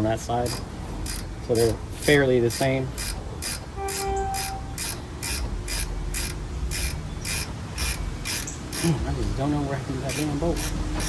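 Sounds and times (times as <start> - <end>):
ratchet wrench clicking: 0.4 - 9.0, 10.0 - 11.0.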